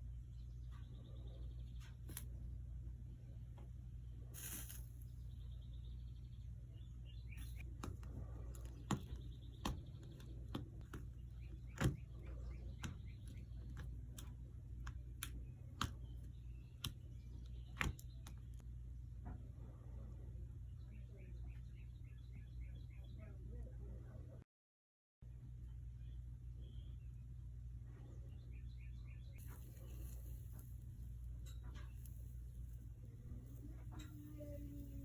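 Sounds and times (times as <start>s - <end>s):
steady low hum: 0.0s - 24.4s, 25.3s - 35.0s.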